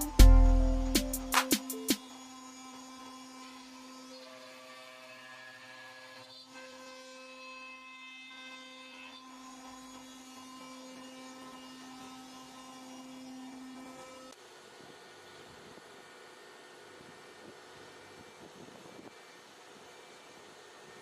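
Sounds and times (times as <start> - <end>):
router spindle whining: 0.0 - 14.4, 17.6 - 21.0.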